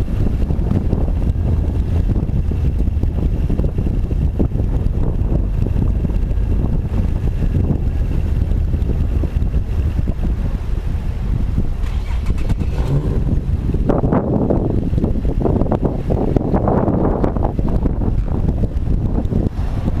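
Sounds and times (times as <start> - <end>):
car driving: 0.0 - 20.0
heavy uneven rumble under car: 0.0 - 20.0.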